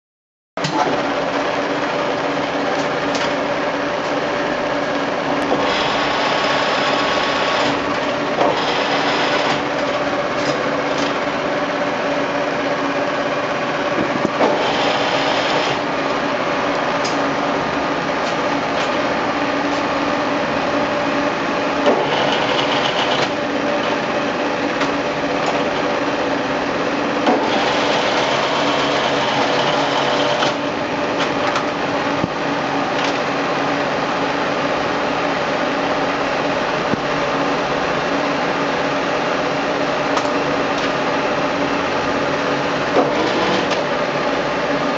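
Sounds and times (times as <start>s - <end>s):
milling machine whine: 0.6s - 44.9s.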